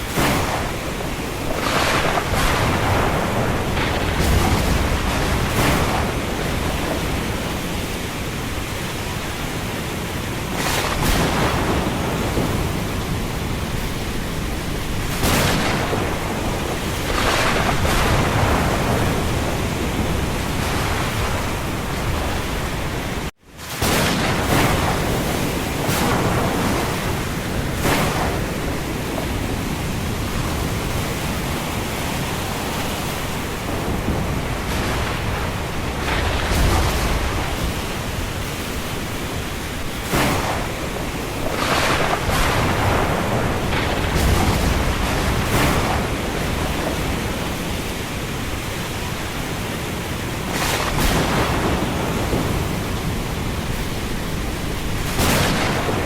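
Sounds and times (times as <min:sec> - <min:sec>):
storm wind blowing in gusts: 0:00.0 - 0:56.0.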